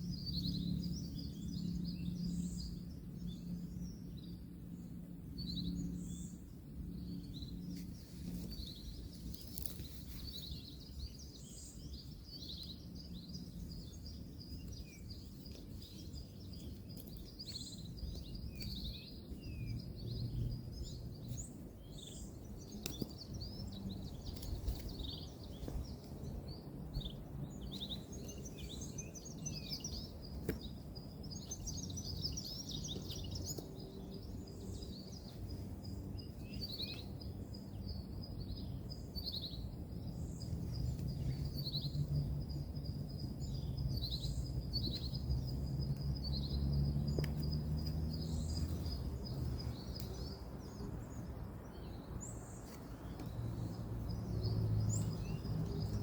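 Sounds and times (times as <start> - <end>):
distant road traffic: 0.0 - 56.0
small birds chirping: 0.0 - 56.0.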